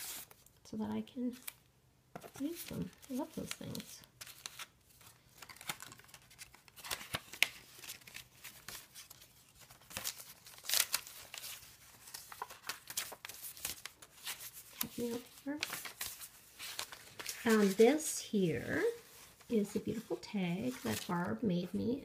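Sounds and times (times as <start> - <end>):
paper rustling and crinkling: 0.0 - 0.6, 1.3 - 21.9.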